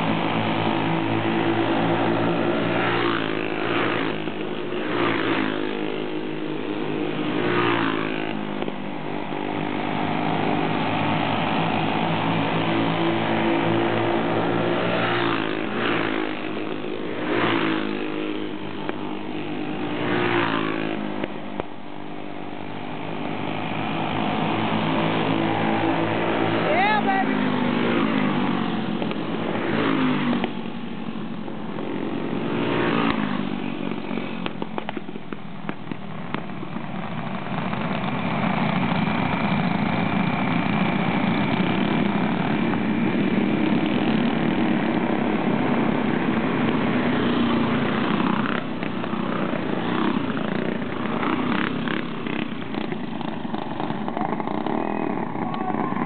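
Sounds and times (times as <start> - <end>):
racing kart engines passing: 0.0 - 56.0.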